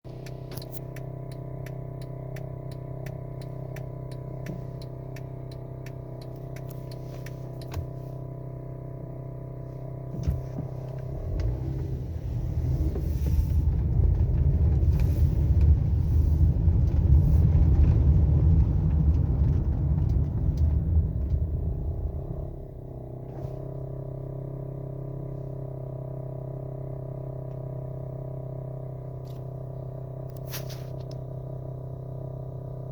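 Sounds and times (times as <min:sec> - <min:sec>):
car engine idling: 0:00.0 - 0:32.9
rough rattling engine rumble: 0:00.0 - 0:32.9.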